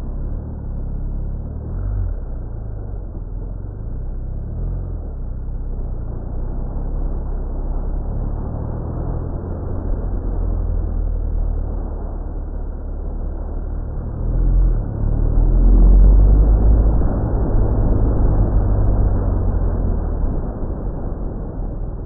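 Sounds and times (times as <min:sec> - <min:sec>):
road and wind noise: 0:00.0 - 0:22.0
vehicle engine rumbling: 0:00.0 - 0:22.0.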